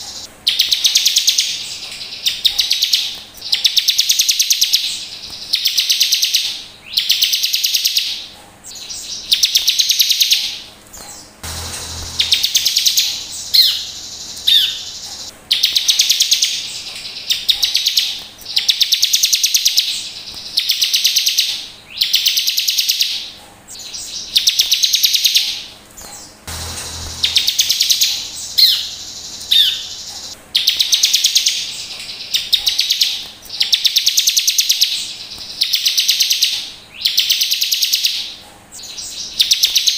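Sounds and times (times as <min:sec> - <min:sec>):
bird singing high trills: 0:00.0 - 0:23.2, 0:26.2 - 0:38.2.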